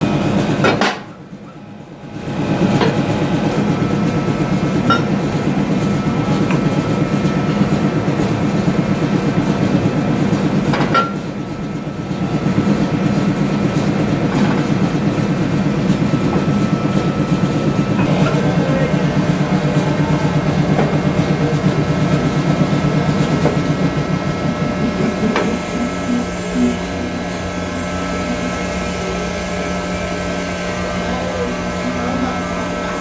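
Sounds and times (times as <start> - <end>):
workshop machinery clattering: 0.0 - 33.0.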